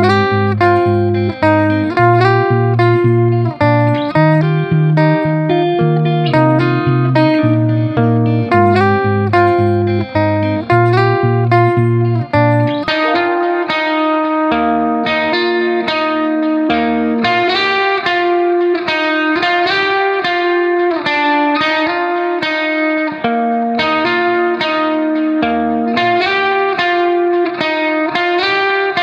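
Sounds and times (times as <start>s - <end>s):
plucked instrumental melody: 0.0s - 28.9s.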